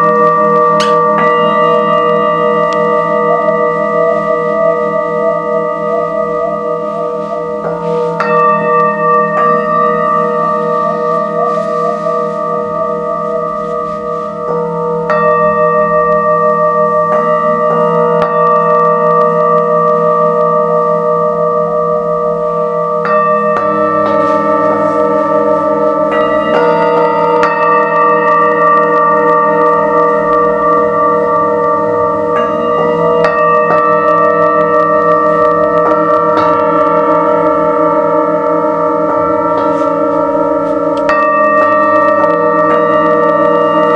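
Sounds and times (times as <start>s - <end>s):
singing bowls ringing: 0.0s - 43.9s.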